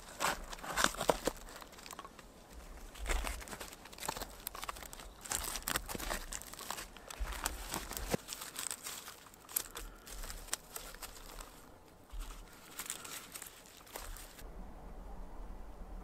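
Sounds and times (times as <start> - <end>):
dry wood shavings crackling: 0.0 - 14.4.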